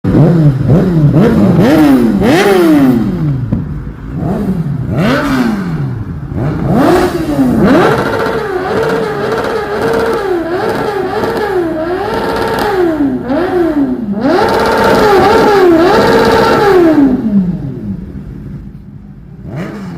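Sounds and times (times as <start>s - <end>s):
motorcycle exhaust revving: 0.0s - 18.4s.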